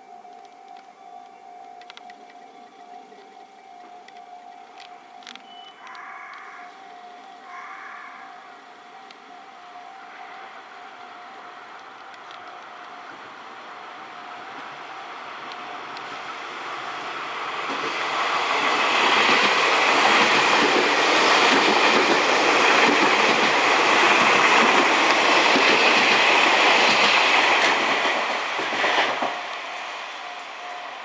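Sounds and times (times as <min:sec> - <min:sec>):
electric train passing: 0:00.0 - 0:06.0, 0:06.6 - 0:31.0.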